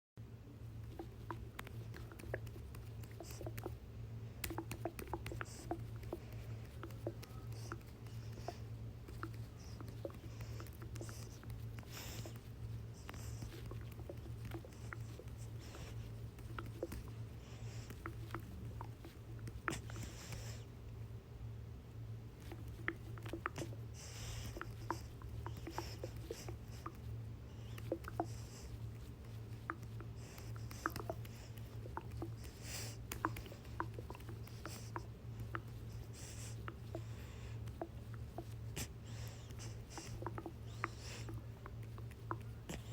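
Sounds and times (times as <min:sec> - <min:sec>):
low steady hum: 0:00.2 - 0:42.9.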